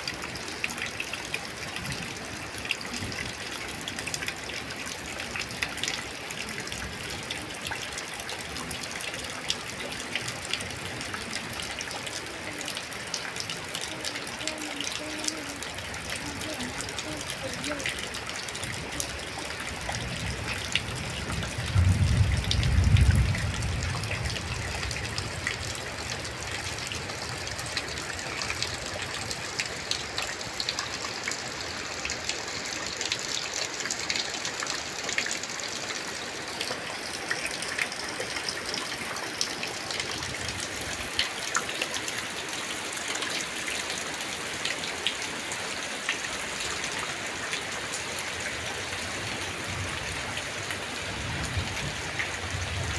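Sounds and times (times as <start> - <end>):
light rain falling: 0.0 - 52.9.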